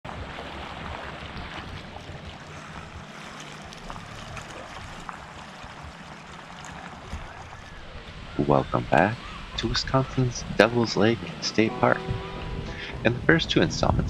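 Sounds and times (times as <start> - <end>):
rushing water: 0.0 - 14.0
wind rumble on microphone: 0.1 - 14.0.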